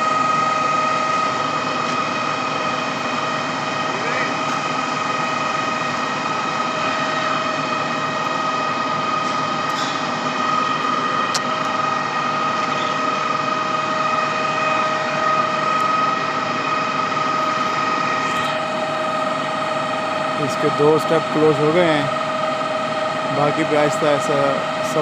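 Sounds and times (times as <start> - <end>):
concrete pump engine and hydraulics: 0.0 - 25.0
high whine: 0.0 - 25.0.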